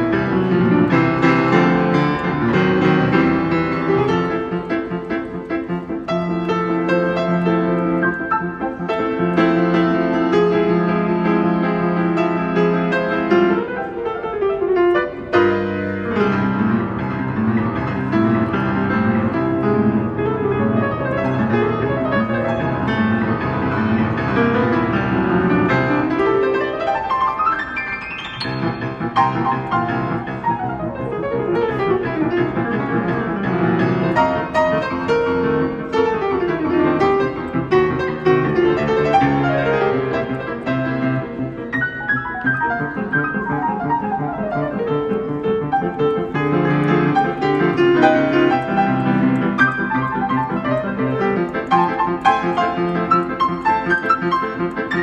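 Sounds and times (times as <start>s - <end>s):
grand piano playing: 0.0s - 55.0s.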